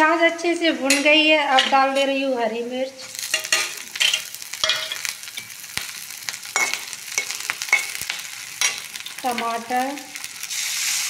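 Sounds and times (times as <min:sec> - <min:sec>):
chillies sizzling in hot oil: 0:00.3 - 0:11.0.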